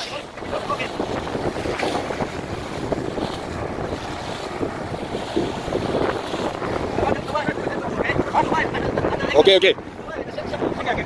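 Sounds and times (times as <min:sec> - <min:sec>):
sea: 0:00.0 - 0:11.0
ship noise: 0:00.0 - 0:11.0
wind buffeting microphone: 0:00.0 - 0:11.0.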